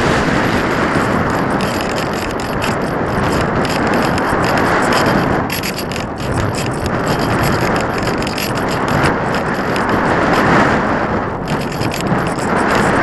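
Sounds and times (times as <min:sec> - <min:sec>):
wind rushing over microphone: 0:00.0 - 0:13.0
rapid high rattle: 0:00.2 - 0:10.8, 0:11.4 - 0:13.0.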